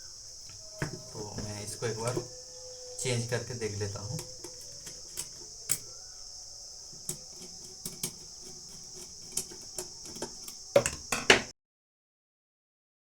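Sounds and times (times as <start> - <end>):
crickets chirring: 0.0 - 11.5.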